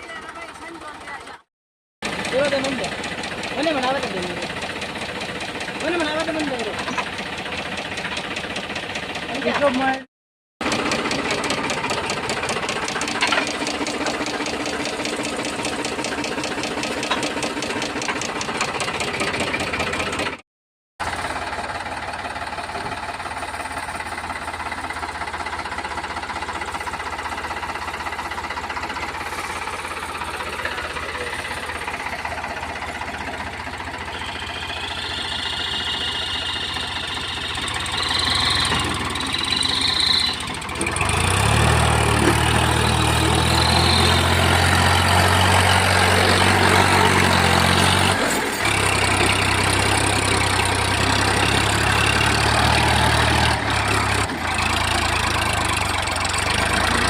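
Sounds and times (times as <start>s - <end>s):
diesel engine running: 0.0s - 20.4s, 21.0s - 57.0s.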